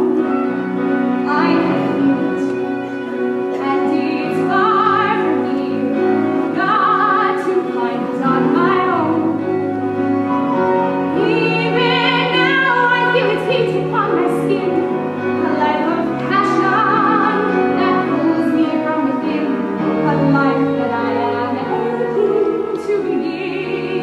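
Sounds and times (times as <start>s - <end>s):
piano accompaniment: 0.0s - 24.0s
woman singing with vibrato: 1.2s - 2.8s, 3.6s - 9.7s, 11.1s - 24.0s.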